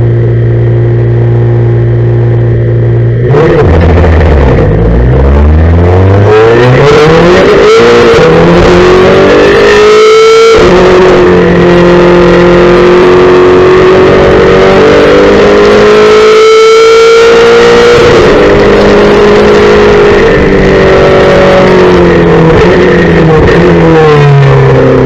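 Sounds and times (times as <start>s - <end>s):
race car engine at full throttle: 0.0s - 25.0s.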